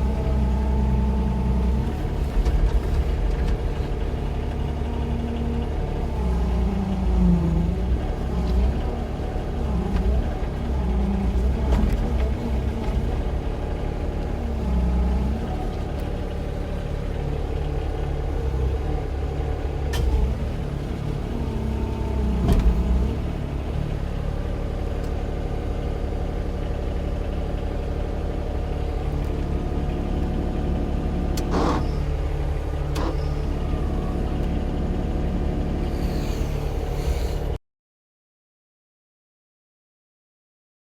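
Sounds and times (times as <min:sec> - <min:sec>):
excavator diesel engine running: 0:00.0 - 0:37.6.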